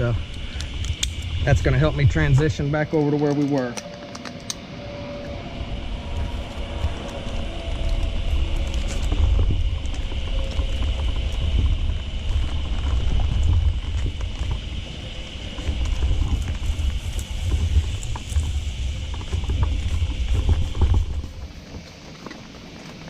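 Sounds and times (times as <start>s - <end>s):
faint high drone: 0.0s - 23.0s
wind buffeting microphone: 0.0s - 23.0s.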